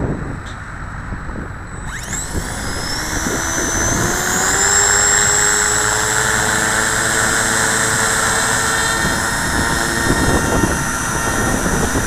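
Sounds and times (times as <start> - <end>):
wind rumbling on microphone: 0.0 - 12.0
rc helicopter motor whine: 1.6 - 12.0.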